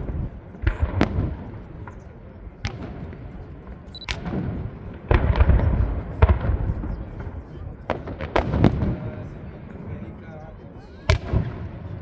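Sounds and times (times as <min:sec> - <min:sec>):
fireworks exploding: 0:00.0 - 0:10.2, 0:10.8 - 0:12.0.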